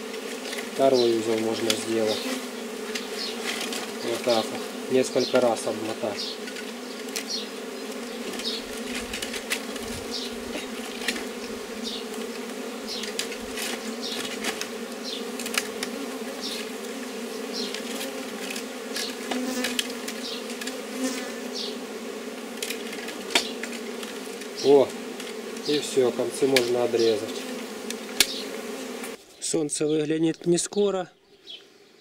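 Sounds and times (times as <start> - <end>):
honeybees buzzing: 0.0 - 29.3.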